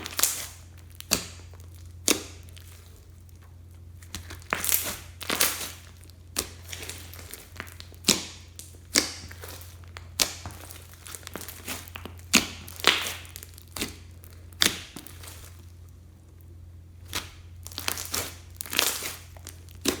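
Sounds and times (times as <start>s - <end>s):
slime sticky pops and crackles: 0.0s - 2.9s, 4.0s - 15.4s, 17.0s - 20.0s
low steady hum: 0.0s - 20.0s.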